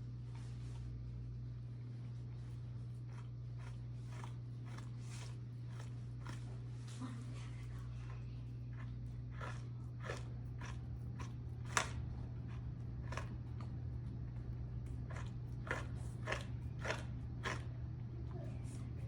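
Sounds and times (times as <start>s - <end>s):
steady low hum: 0.0s - 19.0s
dog licking and gnawing food: 2.1s - 19.0s.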